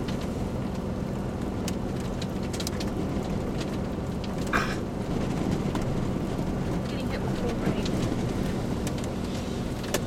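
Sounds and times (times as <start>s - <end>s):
low wind rumble: 0.0s - 10.0s
rain through vehicle window: 0.0s - 10.0s.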